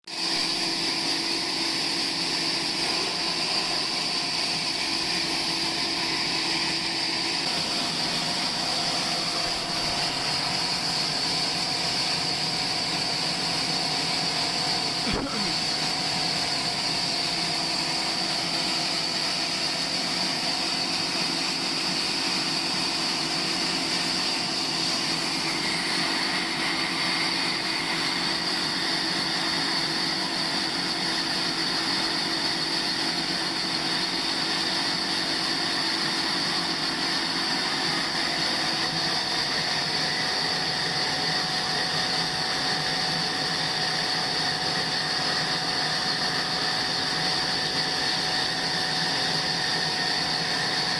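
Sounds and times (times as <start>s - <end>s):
saw whining: 0.2s - 50.9s.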